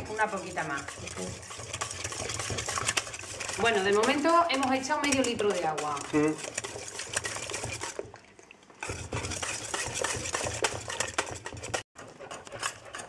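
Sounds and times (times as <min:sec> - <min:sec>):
metal whisk scraping a pan: 0:00.0 - 0:08.2, 0:08.8 - 0:13.0.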